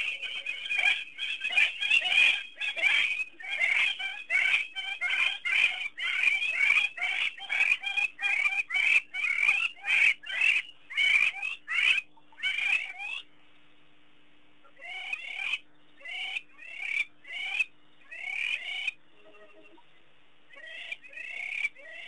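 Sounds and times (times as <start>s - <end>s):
animal calling rapidly: 0.0s - 13.2s, 14.8s - 19.8s, 20.5s - 22.0s.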